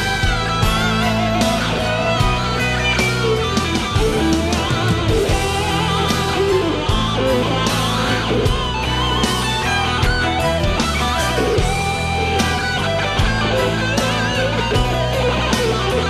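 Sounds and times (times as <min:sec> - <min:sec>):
bass and drums: 0:00.0 - 0:16.0
electric guitar vibrato lead: 0:00.0 - 0:16.0.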